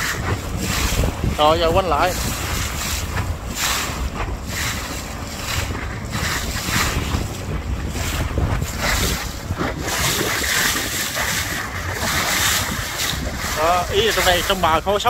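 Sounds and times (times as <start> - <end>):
boat engine rumble: 0.0 - 15.0
wind buffeting microphone: 0.0 - 15.0.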